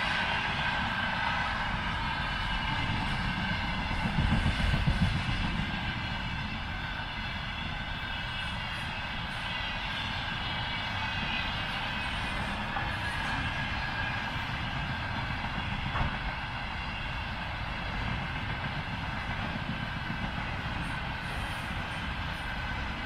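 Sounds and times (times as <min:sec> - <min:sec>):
freight train wagons rumbling: 0:00.0 - 0:23.0.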